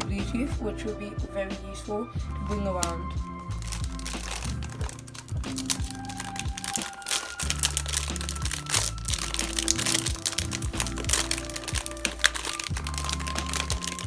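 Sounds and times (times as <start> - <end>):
music with deep bass line: 0.0 - 14.0.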